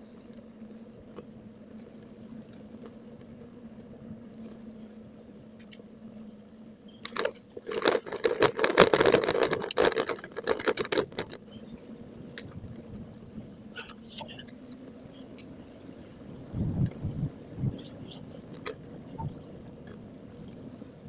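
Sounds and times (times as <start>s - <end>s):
bicycle rattling on rough path: 0.0s - 21.0s
bicycle riding noise: 0.0s - 21.0s.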